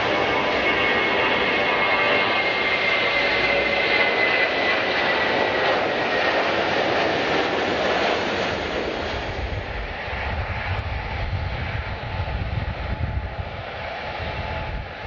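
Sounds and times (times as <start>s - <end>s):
airliner engines roaring past: 0.0s - 15.0s.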